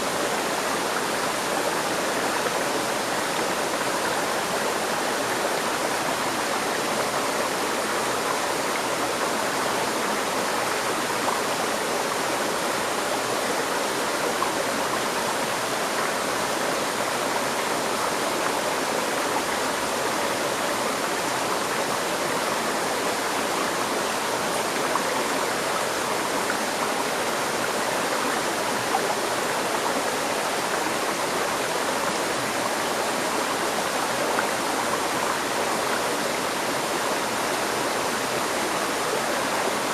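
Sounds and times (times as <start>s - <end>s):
river stream flowing and splashing: 0.0s - 39.9s.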